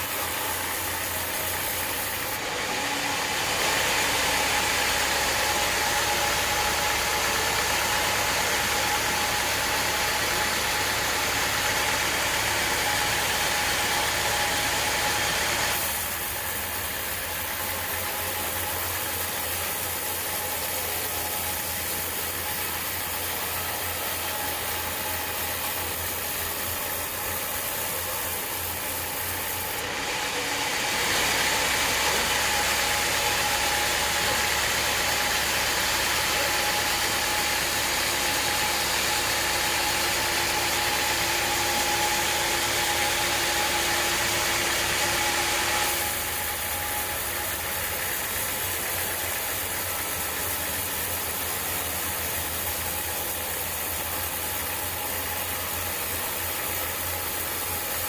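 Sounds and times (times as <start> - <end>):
saw cutting hiss: 0.0 - 58.0
sawmill machine tone: 0.0 - 58.0.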